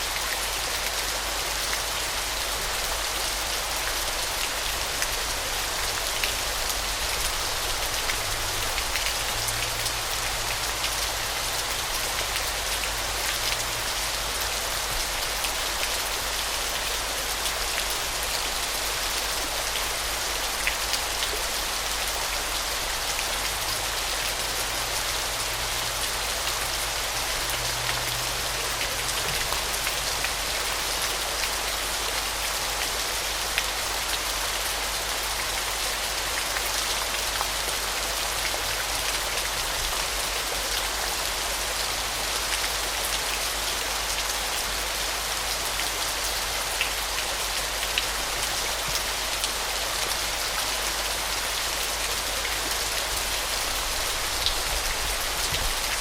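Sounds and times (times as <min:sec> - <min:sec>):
waterfall rushing and splashing: 0:00.0 - 0:56.0.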